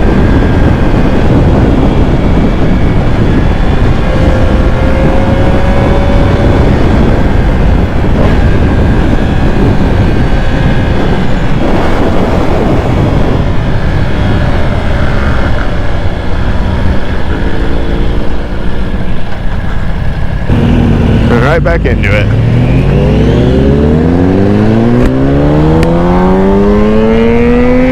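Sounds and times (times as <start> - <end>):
motorcycle engine running: 0.0 - 27.9
wind rush on microphone: 0.0 - 27.9.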